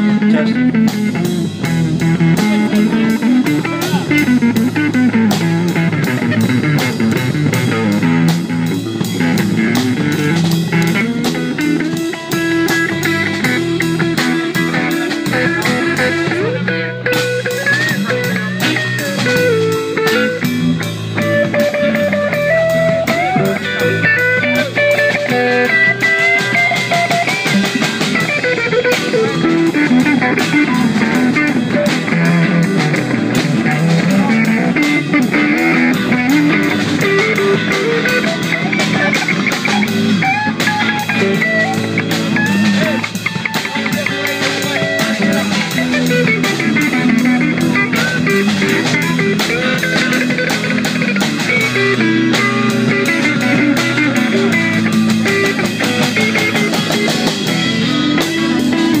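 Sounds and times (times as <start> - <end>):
drum kit beat: 0.0 - 59.0
rock guitar melody: 0.0 - 59.0.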